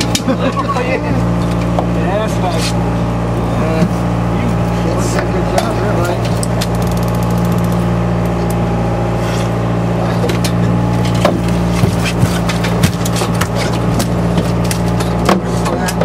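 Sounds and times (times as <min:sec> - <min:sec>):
boat machinery drone: 0:00.0 - 0:16.0.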